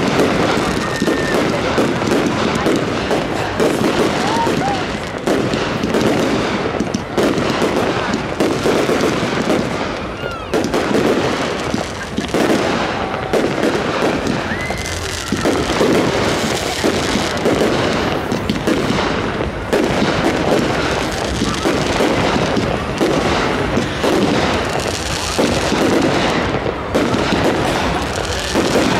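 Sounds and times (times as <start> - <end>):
firework whistling: 0.0 - 28.9.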